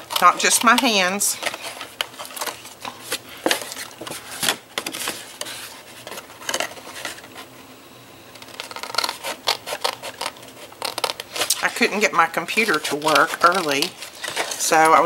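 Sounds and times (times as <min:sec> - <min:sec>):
stiff paper rustling: 0:00.0 - 0:07.5, 0:08.4 - 0:15.0.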